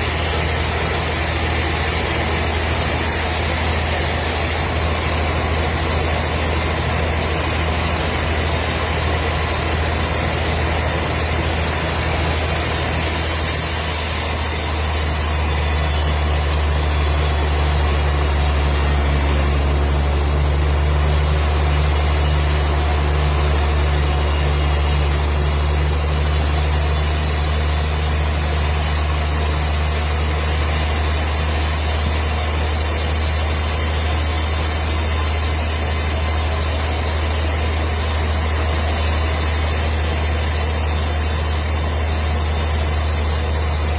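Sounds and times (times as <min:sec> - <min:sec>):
wood processing machine humming: 0:00.0 - 0:43.9.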